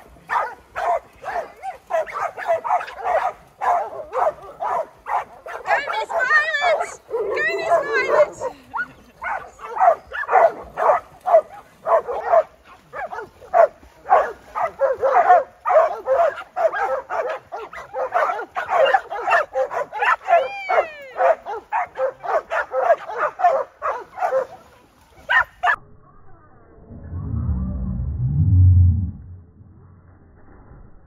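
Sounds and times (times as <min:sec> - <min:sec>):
dogs barking and yipping: 0:00.2 - 0:25.8.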